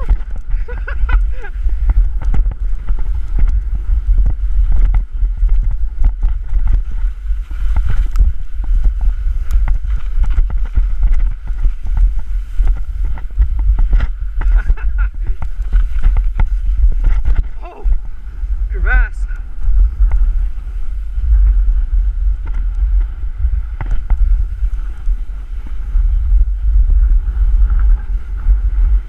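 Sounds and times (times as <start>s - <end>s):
snow hissing and scraping: 0.0s - 29.0s
wind buffeting microphone: 0.0s - 29.0s.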